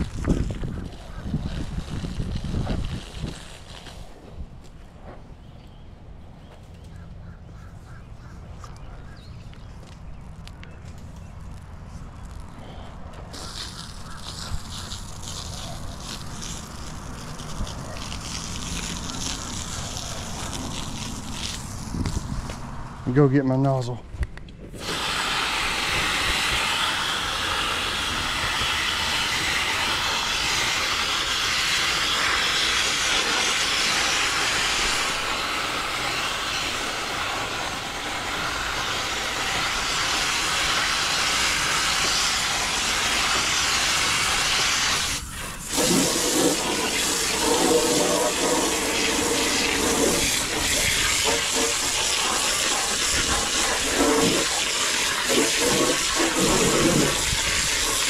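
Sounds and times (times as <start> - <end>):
hose spray hissing: 0.0 - 4.2, 12.2 - 22.7, 24.7 - 58.0.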